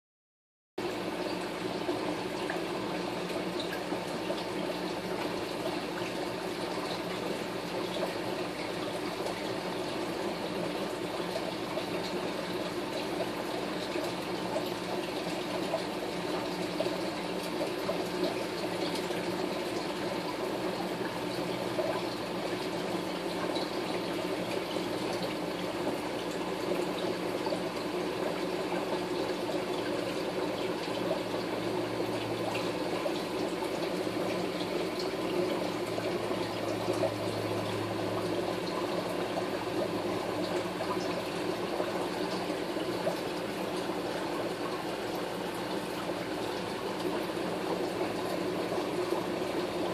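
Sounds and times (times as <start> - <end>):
bubbling running water: 0.8 - 49.9.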